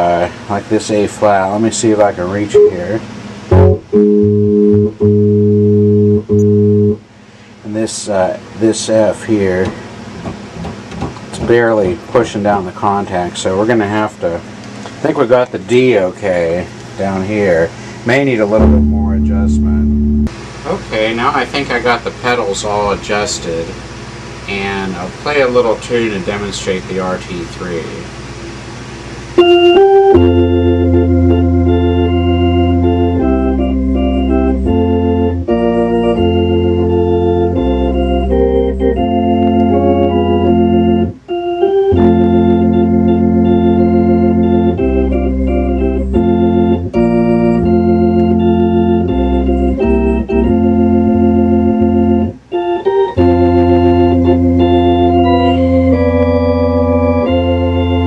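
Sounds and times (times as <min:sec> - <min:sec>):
organ playing chords: 0:00.0 - 0:10.2, 0:11.2 - 0:20.4, 0:28.9 - 0:58.0
organ bass pedal notes: 0:00.0 - 0:20.4, 0:21.0 - 0:58.0.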